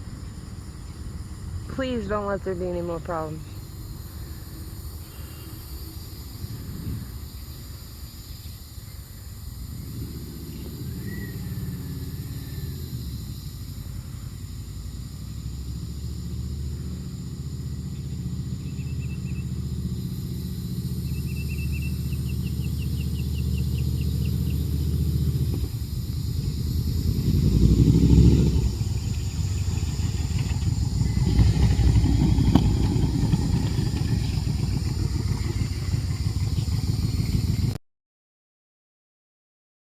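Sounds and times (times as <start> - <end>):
motorcycle engine running: 0.0 - 37.8.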